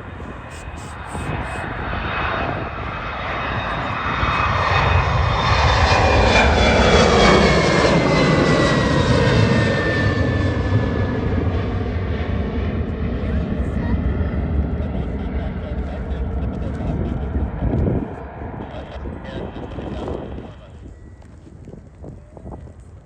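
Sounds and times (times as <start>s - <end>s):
airliner passing: 0.0s - 23.0s.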